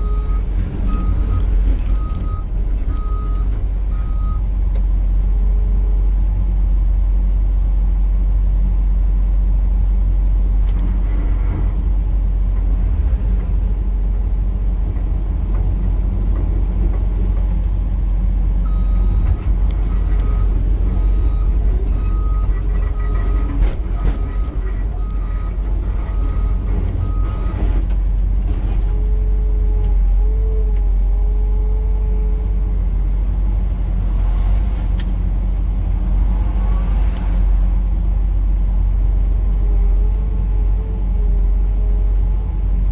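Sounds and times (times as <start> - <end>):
excavator diesel engine droning: 0.0 - 42.9.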